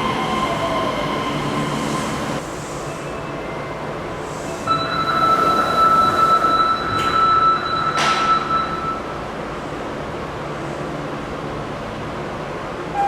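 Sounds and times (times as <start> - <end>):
train high whine: 0.0 - 11.2
subway train rumbling: 0.0 - 13.0.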